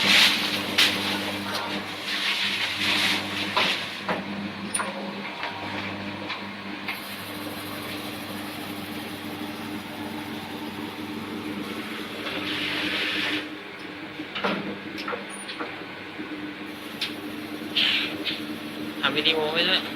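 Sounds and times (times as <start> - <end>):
machine electric hum: 0.0 - 19.9.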